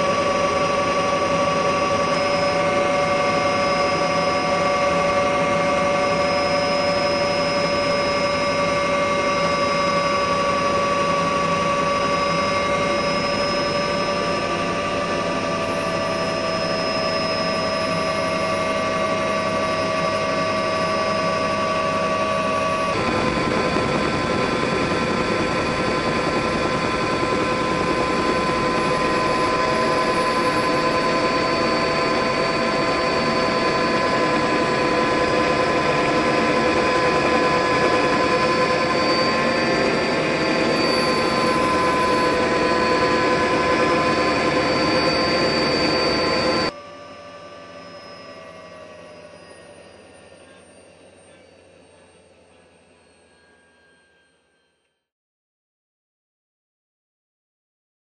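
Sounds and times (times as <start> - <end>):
helicopter rushing noise: 0.0 - 53.9
helicopter turbine whine: 0.0 - 54.8.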